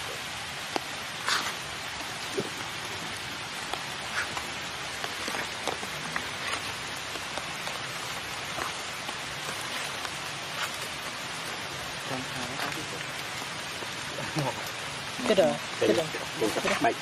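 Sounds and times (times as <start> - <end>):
light rain on foliage: 0.0 - 17.0.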